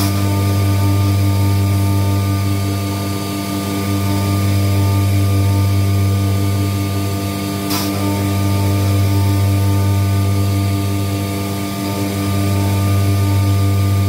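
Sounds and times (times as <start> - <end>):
router spindle humming: 0.0 - 14.0.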